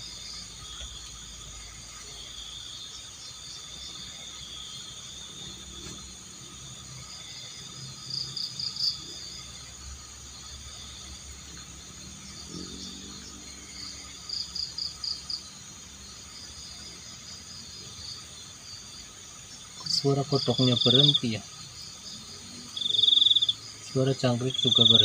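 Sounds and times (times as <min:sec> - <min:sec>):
crickets buzzing: 0:00.0 - 0:25.0
frogs pulsed trills: 0:00.0 - 0:25.0.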